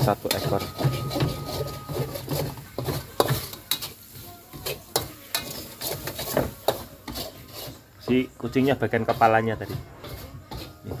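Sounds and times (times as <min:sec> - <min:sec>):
utensil scraping in a pan: 0:00.0 - 0:11.0.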